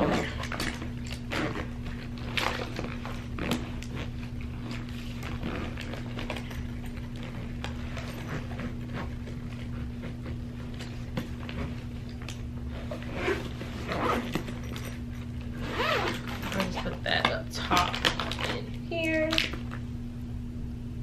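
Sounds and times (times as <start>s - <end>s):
zipper pulling: 0.0s - 17.0s
fabric bag rustling: 0.0s - 17.1s
steady low hum: 0.0s - 21.0s.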